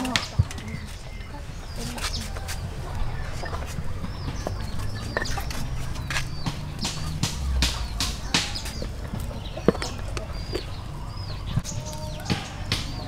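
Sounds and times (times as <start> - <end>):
chickens clucking and chirping: 0.0 - 13.0.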